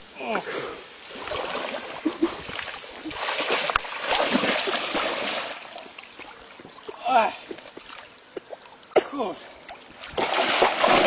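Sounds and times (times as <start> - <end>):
splashing through shallow water: 1.0 - 8.8, 9.7 - 11.0.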